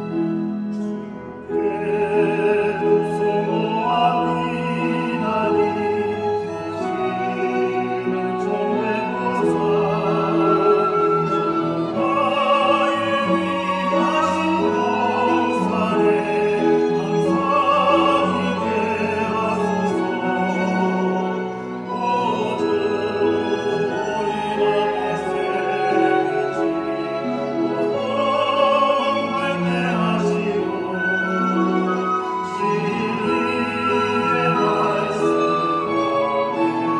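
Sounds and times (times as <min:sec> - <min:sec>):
mixed choir singing: 0:00.0 - 0:36.9
violins and cello: 0:00.0 - 0:36.9.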